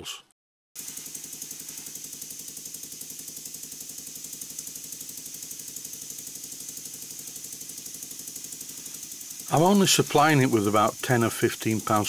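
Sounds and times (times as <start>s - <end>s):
model steam engine exhaust puffs: 0.8s - 12.0s.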